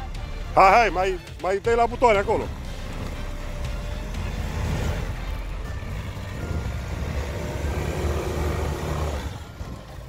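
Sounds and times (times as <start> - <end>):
car engine working: 0.0 - 10.0
tyres grinding on gravel: 1.5 - 10.0.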